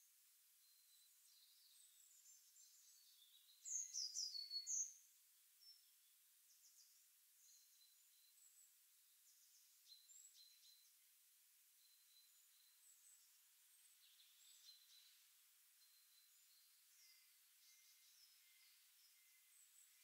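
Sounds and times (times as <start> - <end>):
faint high bird chirps: 0.0 - 11.1, 11.7 - 20.0
small birds singing: 0.0 - 20.0.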